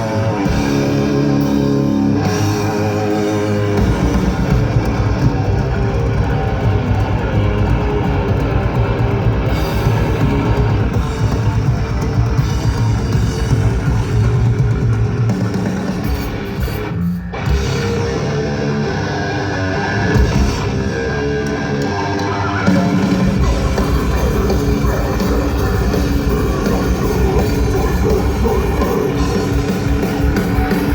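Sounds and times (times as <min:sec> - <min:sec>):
death metal band playing live: 0:00.0 - 0:30.9.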